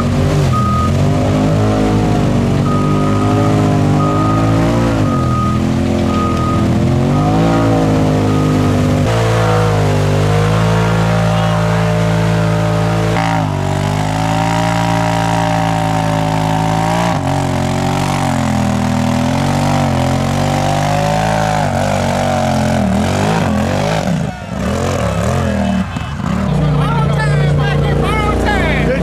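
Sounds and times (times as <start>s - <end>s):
engines revving in mud: 0.0s - 29.0s.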